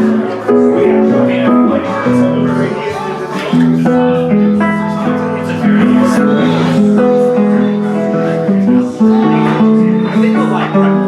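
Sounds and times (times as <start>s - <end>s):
live country band playing: 0.0s - 11.0s
plucked guitar notes: 0.0s - 11.0s.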